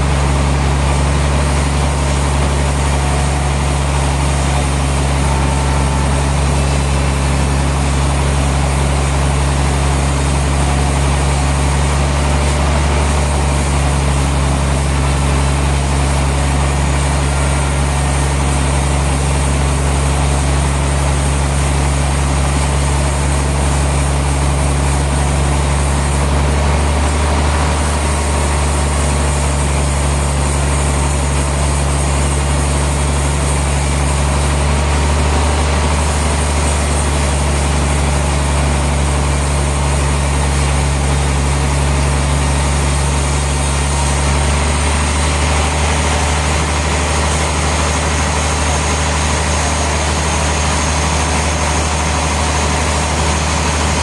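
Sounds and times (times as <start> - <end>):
sawmill machinery engine drone: 0.0 - 54.0.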